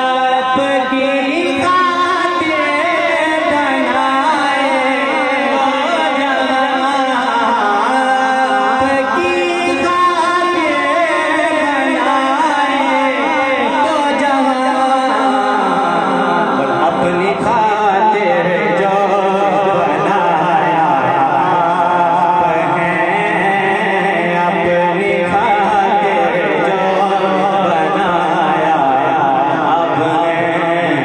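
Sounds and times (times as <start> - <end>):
man singing into microphone: 0.0 - 31.0.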